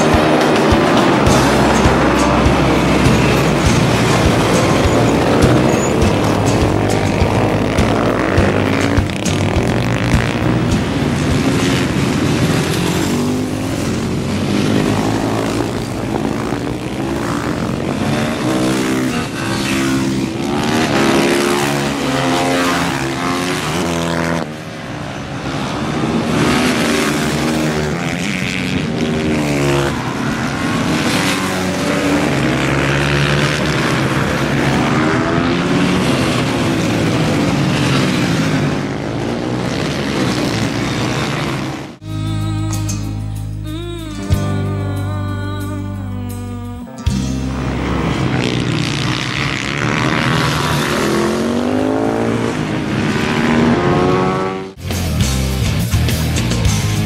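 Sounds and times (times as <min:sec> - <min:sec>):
motorcycles racing past: 0:00.0 - 0:43.0, 0:47.0 - 0:54.9.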